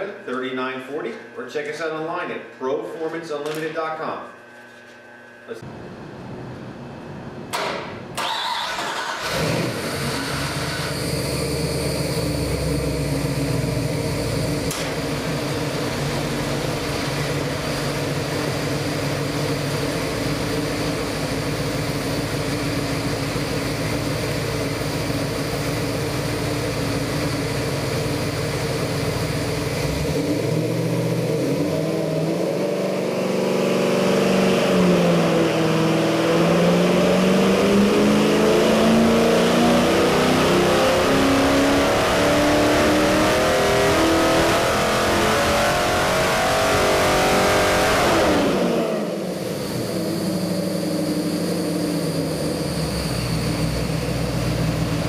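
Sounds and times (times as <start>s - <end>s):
engine idling and revving up: 8.1s - 55.0s.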